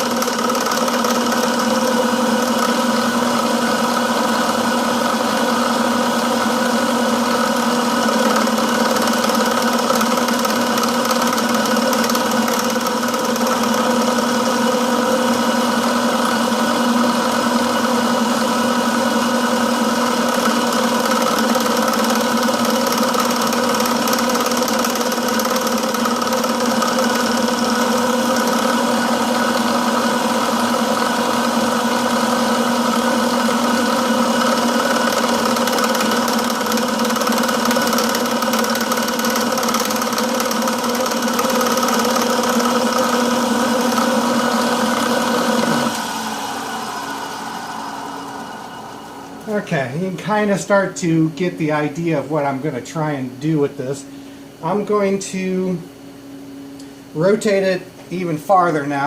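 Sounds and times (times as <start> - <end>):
milling machine motor humming: 0.0 - 50.6.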